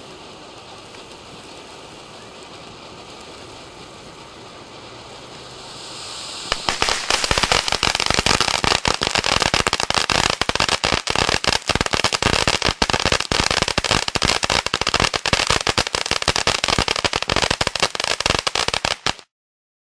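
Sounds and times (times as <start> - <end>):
firework hissing and crackling: 0.0 - 19.3.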